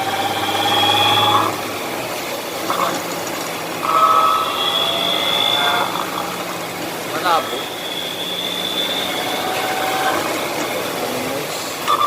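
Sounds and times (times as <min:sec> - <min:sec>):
differential hum and whine: 0:00.0 - 0:12.0
road noise inside car: 0:00.0 - 0:12.0.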